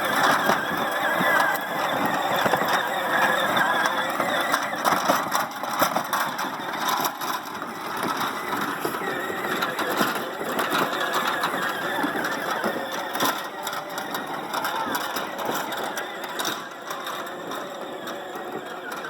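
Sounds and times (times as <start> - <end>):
plastic wheels rattling: 0.0 - 19.0
toy electric motor whirring: 0.0 - 19.0.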